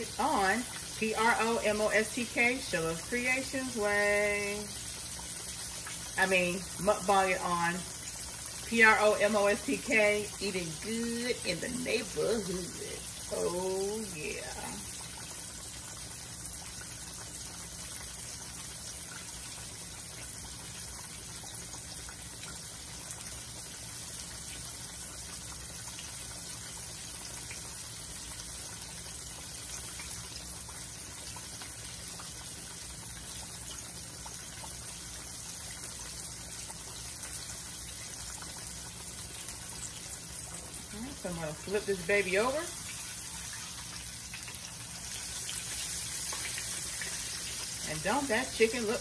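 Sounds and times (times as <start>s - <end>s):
chicken frying in hot oil: 0.0s - 49.0s.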